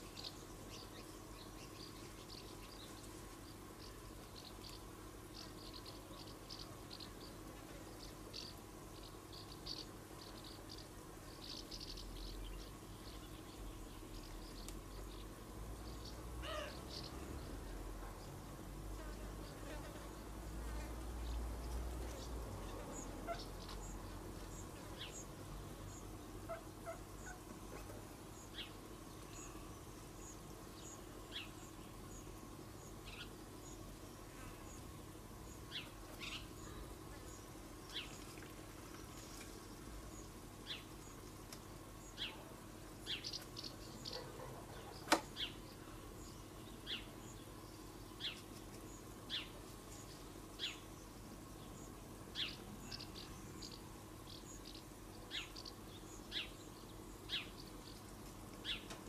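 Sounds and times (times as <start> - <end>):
bird chirping: 0.0 - 18.4, 21.2 - 34.9, 42.0 - 59.0
faint steady hum: 0.0 - 59.0.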